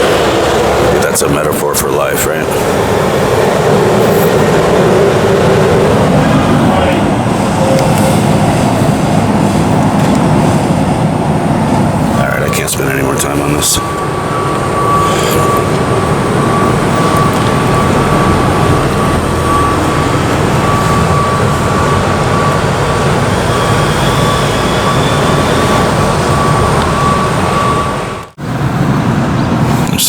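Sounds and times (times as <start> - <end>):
street traffic noise: 0.0 - 30.0
thin high whine: 0.0 - 30.0.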